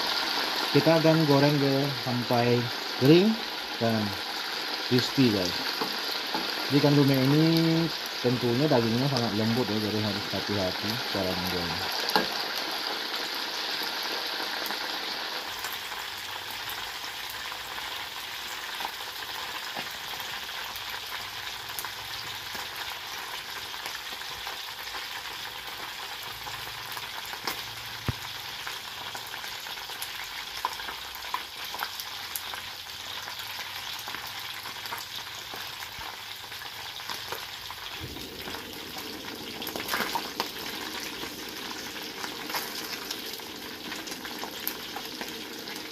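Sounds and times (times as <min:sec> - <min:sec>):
fish deep-frying in oil: 0:00.0 - 0:45.9.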